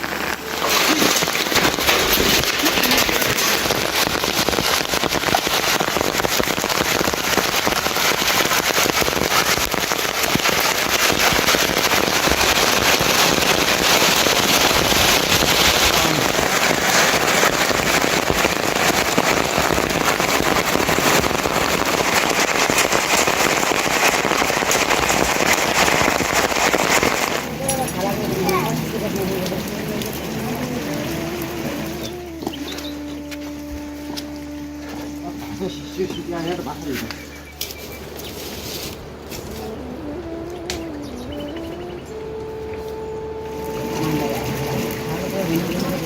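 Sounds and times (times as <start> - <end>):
heavy rain on hard surface: 0.0 - 46.0.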